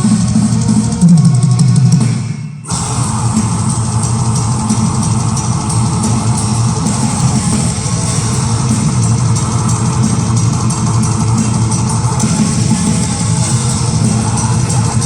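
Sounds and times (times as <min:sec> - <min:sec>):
live metal band playing: 0:00.0 - 0:15.0.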